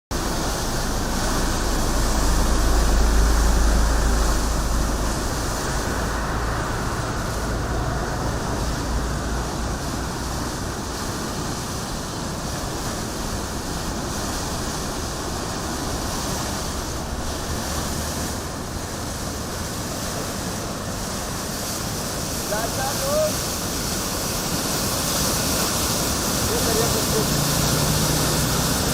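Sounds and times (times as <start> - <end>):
rushing floodwater: 0.1 - 28.9.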